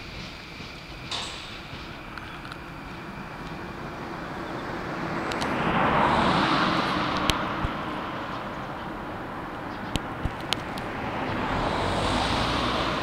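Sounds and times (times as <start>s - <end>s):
car passing by: 1.2s - 13.0s.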